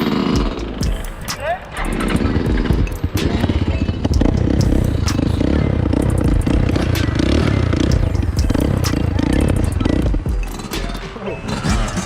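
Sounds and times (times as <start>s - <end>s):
dirt bike engine running: 0.0s - 10.7s.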